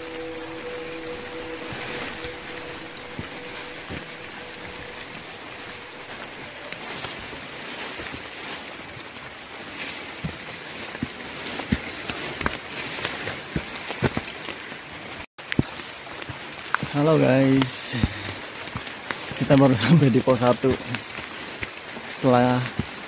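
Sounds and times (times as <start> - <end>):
rain hissing on foliage: 0.0 - 23.0.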